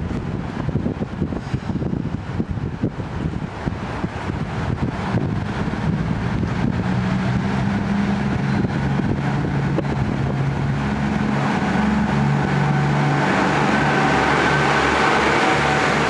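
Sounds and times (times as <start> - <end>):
diesel railcar engines running: 0.0 - 16.0.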